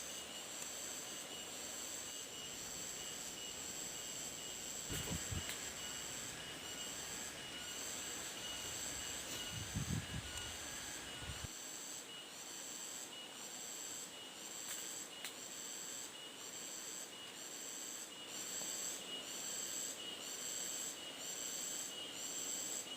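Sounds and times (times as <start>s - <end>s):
insects chirping: 0.0s - 22.9s.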